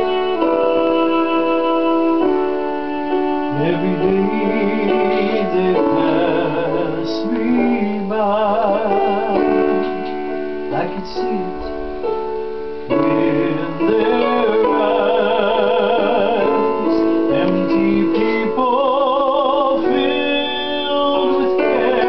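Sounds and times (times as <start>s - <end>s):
gospel piano accompaniment: 0.0s - 22.0s
man singing with vibrato: 0.0s - 22.0s.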